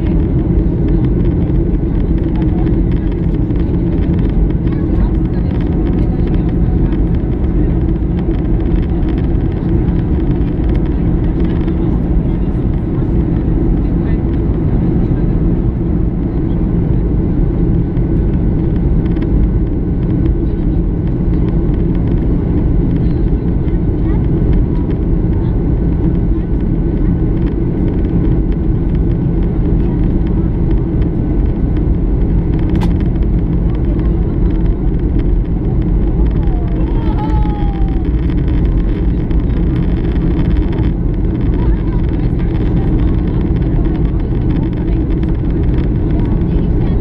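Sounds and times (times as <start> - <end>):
airplane cabin engine rumble: 0.0 - 47.0.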